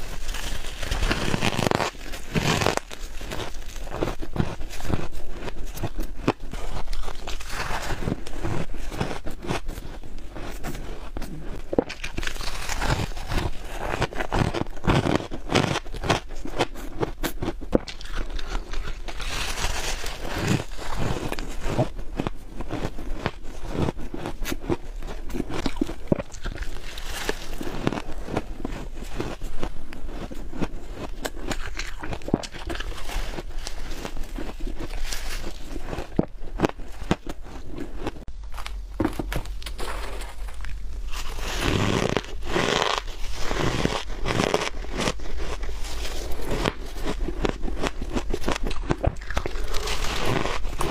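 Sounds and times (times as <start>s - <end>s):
biting crunchy frost: 0.0s - 50.9s.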